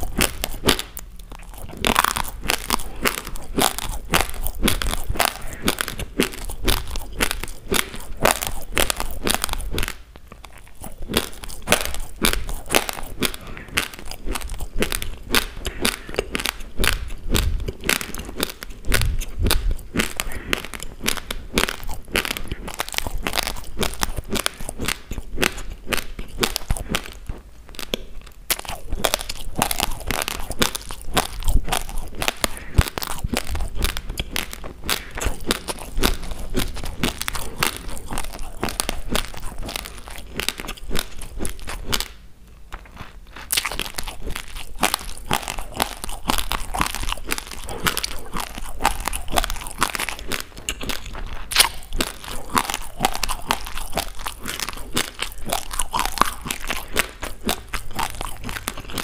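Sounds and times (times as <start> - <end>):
chewing crunchy rice grains: 0.0 - 59.0.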